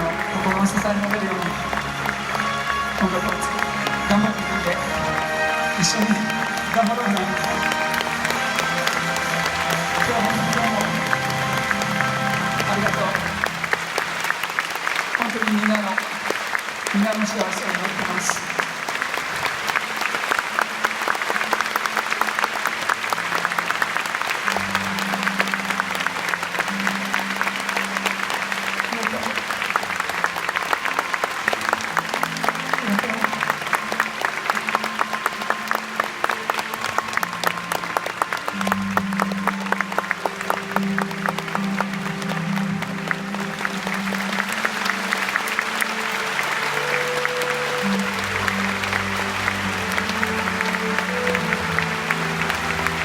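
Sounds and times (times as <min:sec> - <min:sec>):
slow music with held notes: 0:00.0 - 0:15.2, 0:18.2 - 0:53.0
audience applauding: 0:00.0 - 0:53.0.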